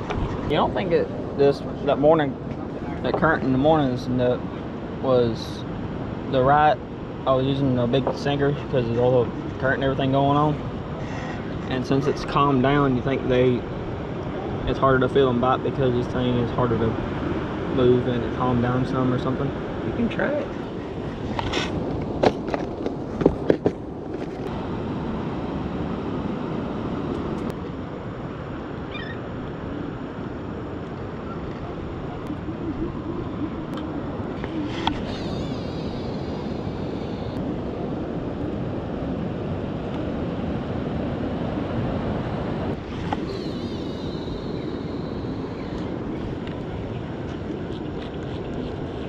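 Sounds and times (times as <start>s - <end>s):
wind: 0.0s - 49.0s.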